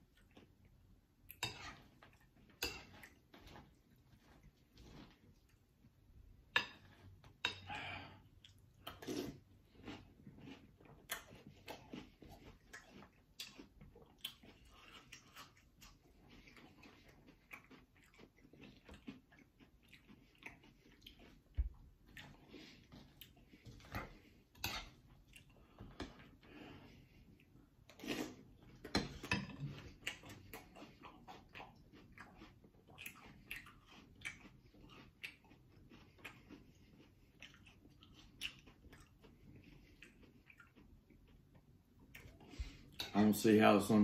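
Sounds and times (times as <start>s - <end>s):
chewing crunchy cereal: 0.0s - 5.9s, 6.7s - 43.4s.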